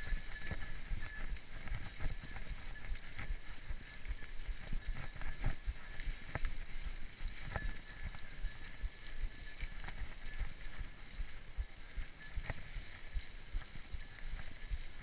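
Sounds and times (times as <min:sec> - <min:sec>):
bike tyres crunching through leaves: 0:00.0 - 0:15.0.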